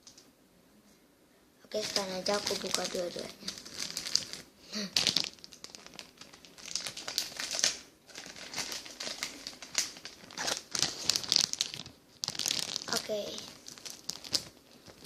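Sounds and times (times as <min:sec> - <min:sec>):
packaging crinkling and rustling: 0:01.7 - 0:15.0
packaging tearing: 0:01.8 - 0:15.0.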